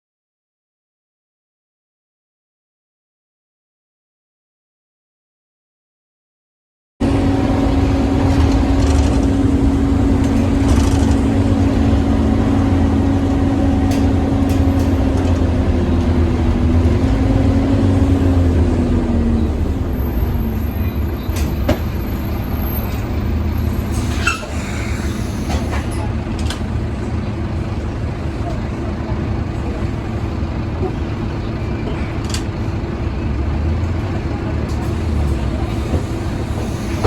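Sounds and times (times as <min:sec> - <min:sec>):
bus engine rumble: 0:07.0 - 0:37.0.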